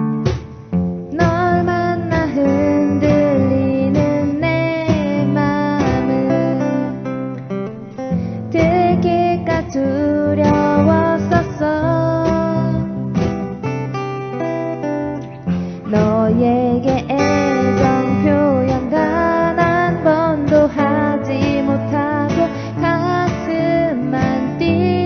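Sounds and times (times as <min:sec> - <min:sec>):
strummed guitar chords: 0:00.0 - 0:25.0
person singing: 0:01.1 - 0:07.2, 0:08.1 - 0:13.4, 0:15.5 - 0:25.0.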